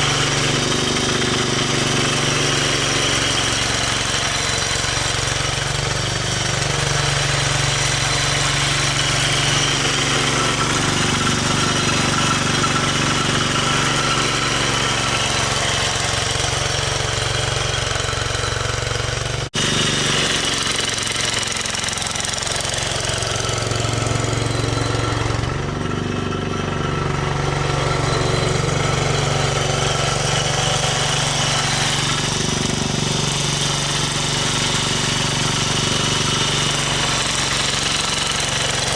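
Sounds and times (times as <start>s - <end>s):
snow removal machine engine chugging: 0.0s - 38.9s.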